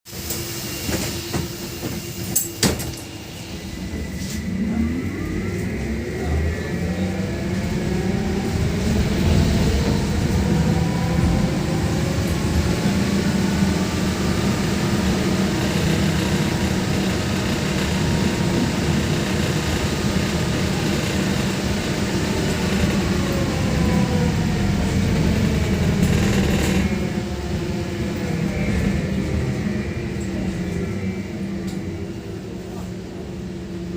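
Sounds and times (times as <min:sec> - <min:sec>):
trolleybus electric drive whining: 0:00.1 - 0:33.9.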